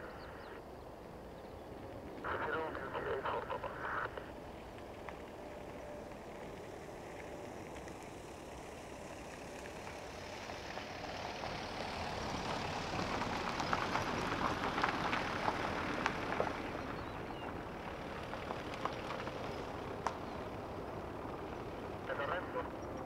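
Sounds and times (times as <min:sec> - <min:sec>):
jet airliner approaching: 0:00.0 - 0:23.0.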